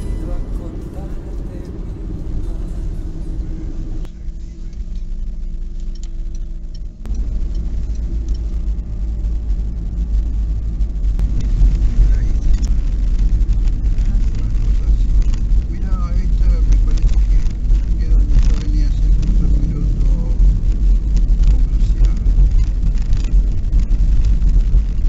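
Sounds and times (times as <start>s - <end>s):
road and engine rumble: 0.0s - 25.0s
steady engine hum: 0.0s - 25.0s.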